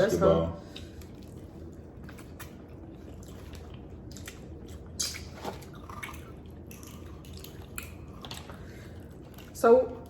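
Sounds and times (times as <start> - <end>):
wet eating squishes and smacks: 0.7 - 10.0.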